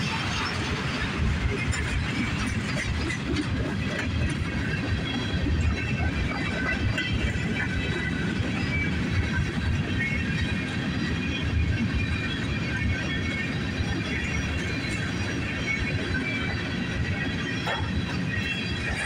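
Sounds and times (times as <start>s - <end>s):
freight train wheels rumbling: 0.0s - 19.0s
rail joints clickety-clack: 0.0s - 19.0s.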